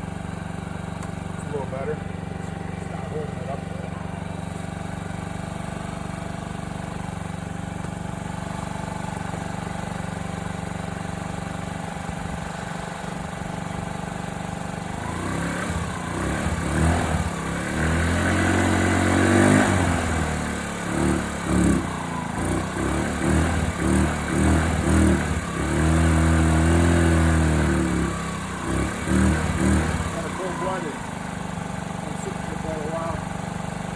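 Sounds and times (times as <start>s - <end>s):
scooter engine idling and revving: 0.0s - 33.9s.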